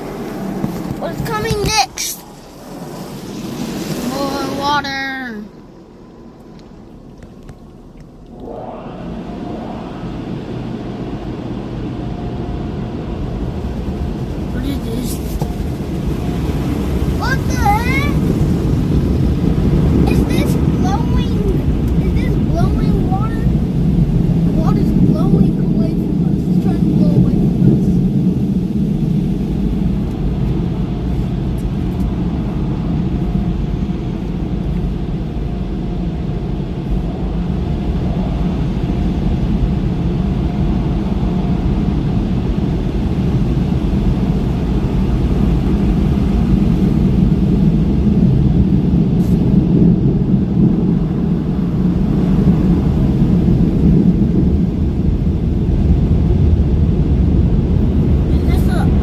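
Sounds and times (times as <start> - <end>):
car wash dryer blowers: 0.0 - 59.0.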